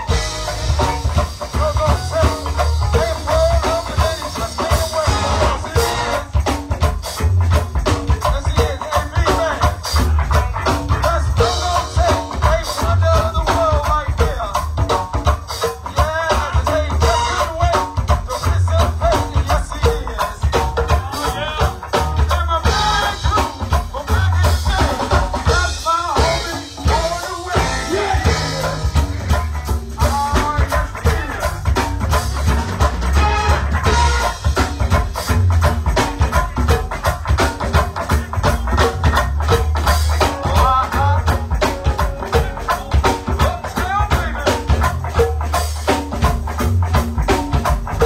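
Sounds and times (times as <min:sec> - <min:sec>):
vocals: 0:00.0 - 0:46.0
congas: 0:00.0 - 0:48.0
deep bass line: 0:00.0 - 0:48.0
drum kit beat: 0:00.0 - 0:48.0
live band playing: 0:00.0 - 0:48.0.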